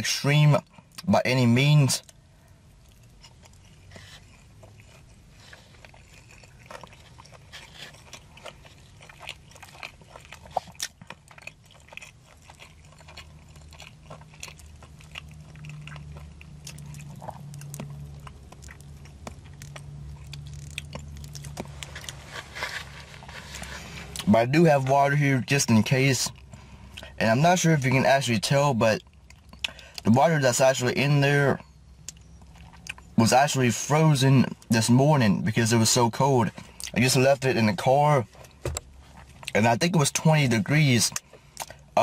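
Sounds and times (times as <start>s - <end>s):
low steady hum: 0.0s - 42.0s
person chewing: 0.5s - 30.1s, 30.9s - 33.2s, 36.4s - 37.0s, 38.1s - 39.6s, 41.1s - 42.0s.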